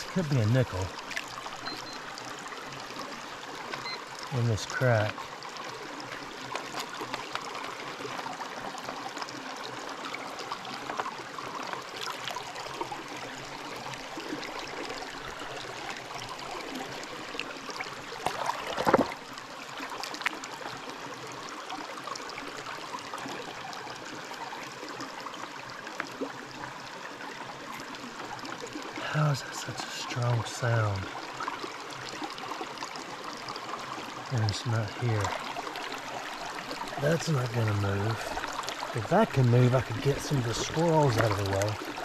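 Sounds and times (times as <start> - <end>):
creek water trickling: 0.0 - 42.0.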